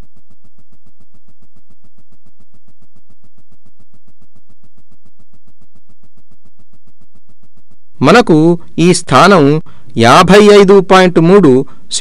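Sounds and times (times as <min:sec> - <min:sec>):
rapidly pulsing buzz: 0:00.0 - 0:11.9.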